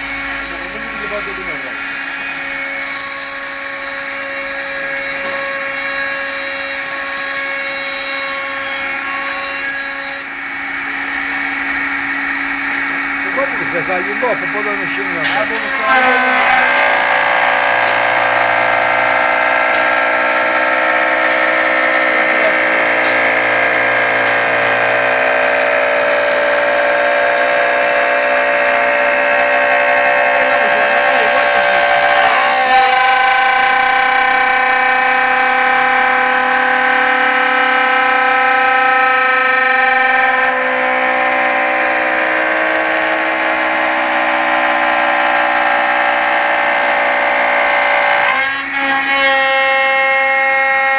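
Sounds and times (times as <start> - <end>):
router spindle cutting wood: 0.0 - 10.9, 11.5 - 50.9.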